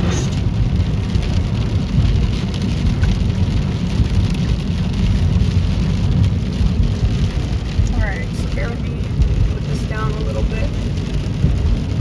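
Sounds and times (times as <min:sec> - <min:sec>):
car driving on a wet road: 0:00.0 - 0:12.0
heavy rain pelting a car: 0:00.0 - 0:12.0.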